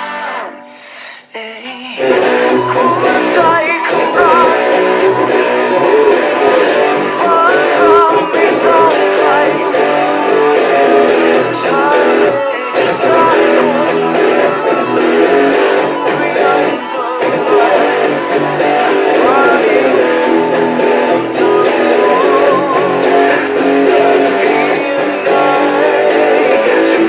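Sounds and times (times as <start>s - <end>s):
rock band with drums: 1.7s - 27.0s
electric guitar lead solo: 2.0s - 27.0s.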